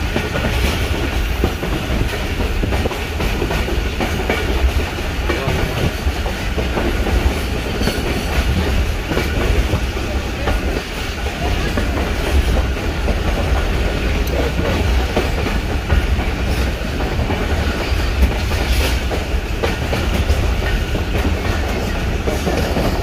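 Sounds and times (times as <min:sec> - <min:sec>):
train coach rumbling: 0:00.0 - 0:23.0.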